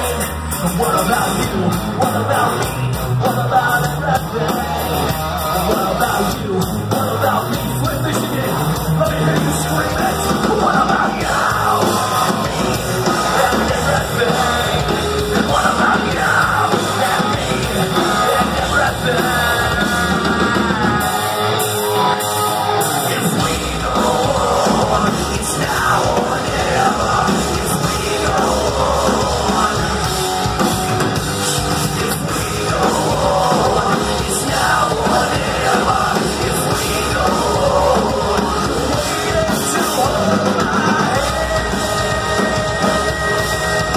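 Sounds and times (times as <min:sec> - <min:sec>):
drums: 0:00.0 - 0:43.9
electric guitars: 0:00.0 - 0:43.9
person singing: 0:00.0 - 0:43.9.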